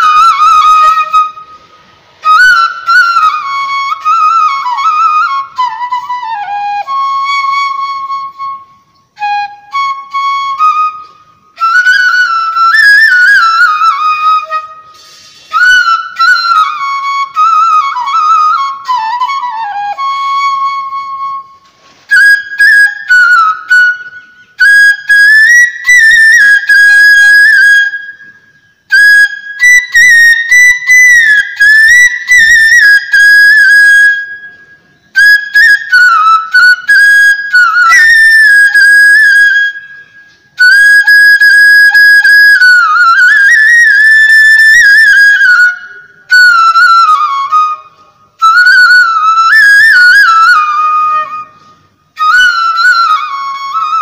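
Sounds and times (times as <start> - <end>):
solo flute melody: 0.0 - 54.0.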